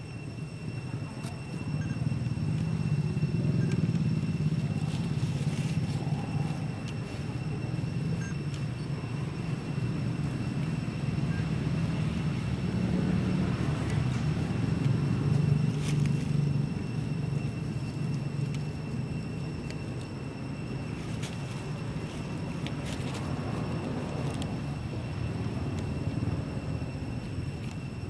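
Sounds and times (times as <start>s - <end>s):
engine rumbling: 0.0s - 28.0s.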